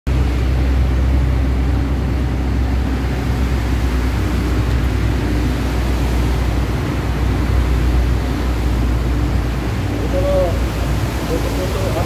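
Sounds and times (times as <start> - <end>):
low engine drone: 0.1 - 12.0
tyre noise on wet road: 0.1 - 12.0.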